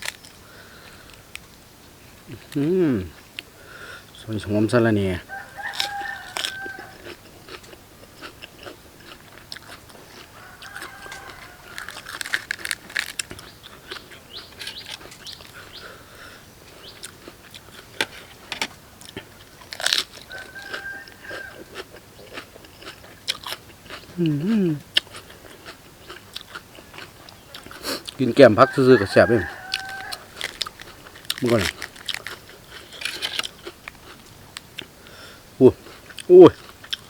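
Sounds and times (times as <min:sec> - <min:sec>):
crunching raw vegetables: 0:00.0 - 0:01.2, 0:05.2 - 0:15.9, 0:16.7 - 0:37.0.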